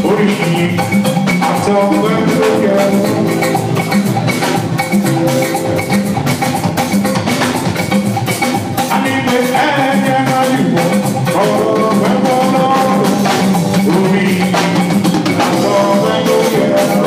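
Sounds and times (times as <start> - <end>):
band music: 0.0 - 17.0.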